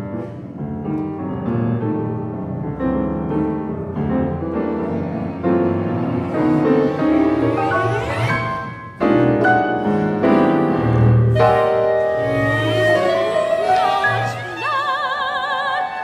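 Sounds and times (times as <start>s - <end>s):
piano chords: 0.0s - 16.0s
sustained string notes: 2.8s - 15.9s.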